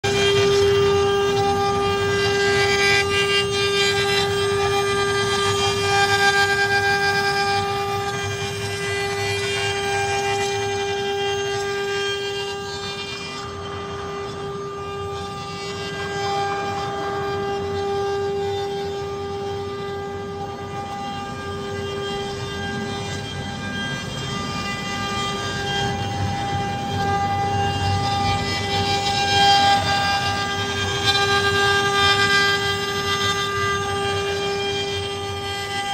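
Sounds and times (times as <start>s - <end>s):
low machine noise: 0.0s - 35.9s
router spindles whining: 0.0s - 35.9s
scratchy wood cutting noise: 0.0s - 35.9s.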